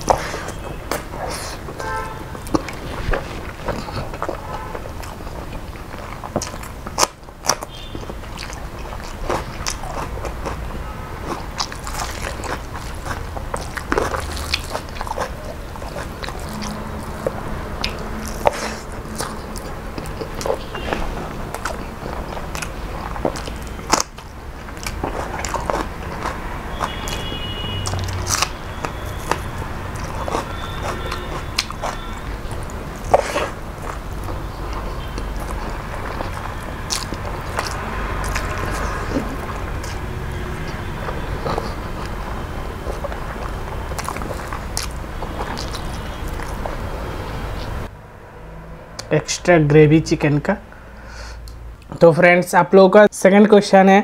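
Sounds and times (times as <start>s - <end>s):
man chewing food: 0.0s - 47.9s
sharp clicks and crunches: 0.0s - 47.9s.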